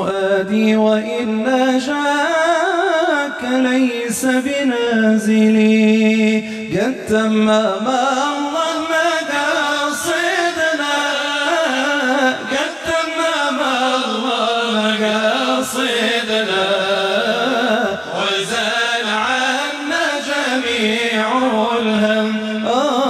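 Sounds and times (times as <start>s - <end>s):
person singing devotional melody: 0.0s - 23.0s.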